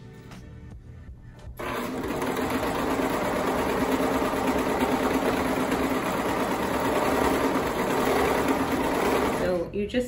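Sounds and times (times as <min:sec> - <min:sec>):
serger sewing machine running: 0:01.6 - 0:09.7.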